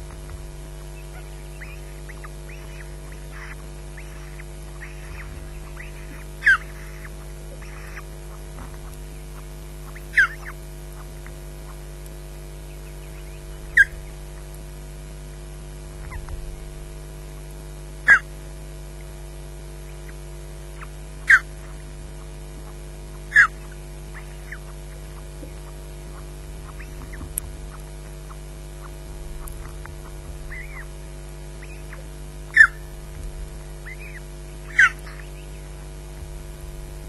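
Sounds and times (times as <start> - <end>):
osprey calling: 0.0 - 14.8, 15.9 - 18.4, 19.8 - 37.0
low electrical hum: 0.0 - 37.0.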